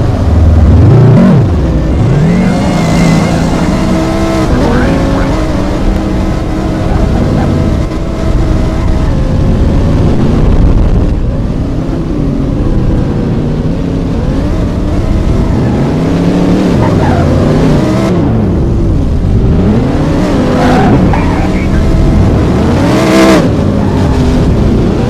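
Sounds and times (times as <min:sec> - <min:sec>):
car engine revving: 0:00.0 - 0:25.0
car engines running: 0:00.0 - 0:25.0.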